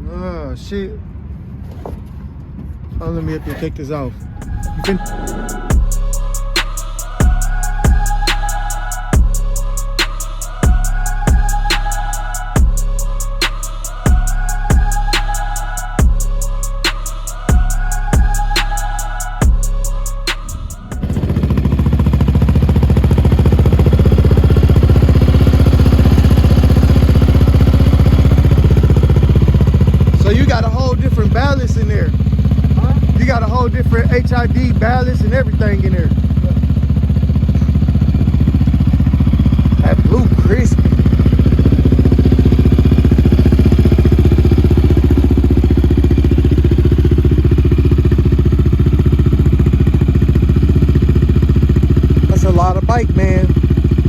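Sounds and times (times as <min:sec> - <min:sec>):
engine idling: 0:03.8 - 0:54.0.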